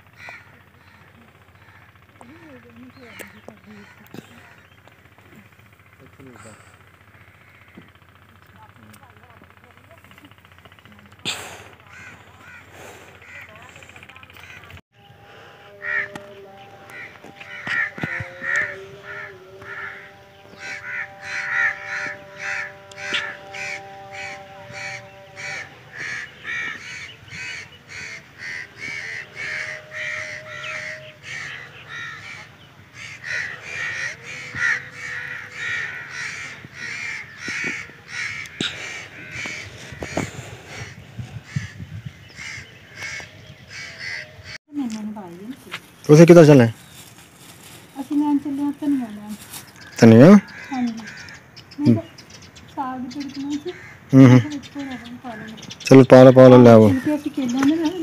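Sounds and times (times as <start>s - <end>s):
crows cawing: 0.0s - 58.0s.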